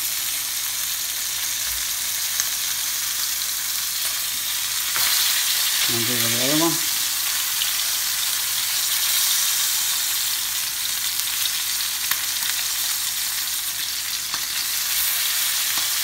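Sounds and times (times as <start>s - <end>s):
pork sizzling in frying pan: 0.0s - 16.0s.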